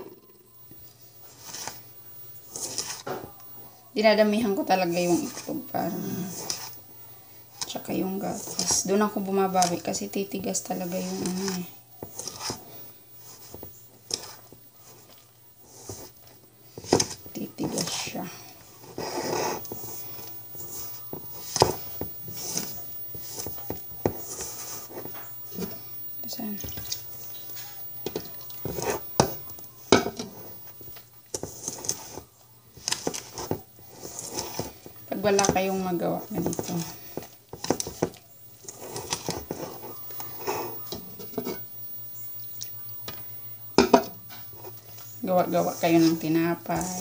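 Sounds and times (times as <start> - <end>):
whisk beating batter: 1.2 - 3.4, 4.1 - 25.9, 26.6 - 41.5.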